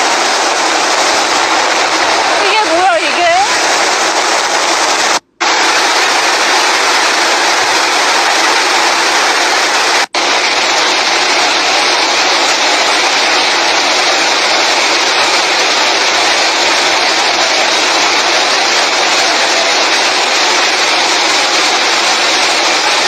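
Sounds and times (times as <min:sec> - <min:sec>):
floodwater rushing: 0:00.0 - 0:23.0
rain: 0:00.0 - 0:23.0.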